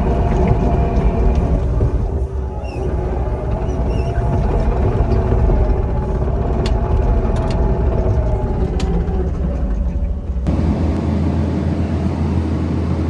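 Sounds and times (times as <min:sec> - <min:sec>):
skid steer engine rumbling: 0:00.0 - 0:13.0.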